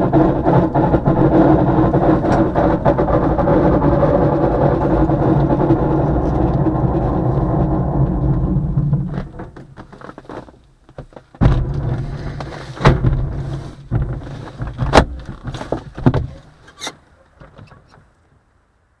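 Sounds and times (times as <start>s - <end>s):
airframe knocks and clacks: 0.0s - 16.6s
glider rolling over ground: 0.0s - 16.6s.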